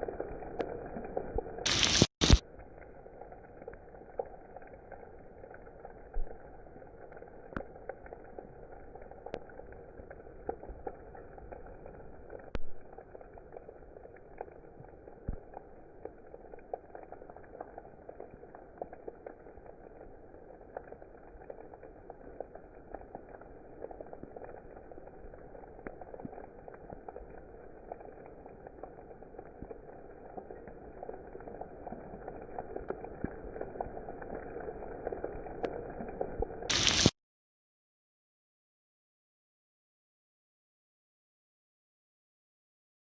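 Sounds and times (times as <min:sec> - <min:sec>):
steady rain with ticking drops: 0:00.0 - 0:37.2.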